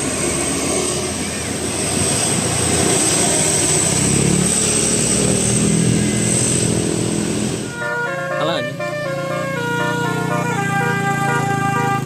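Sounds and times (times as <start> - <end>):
bus engine running loudly: 0.0 - 12.0.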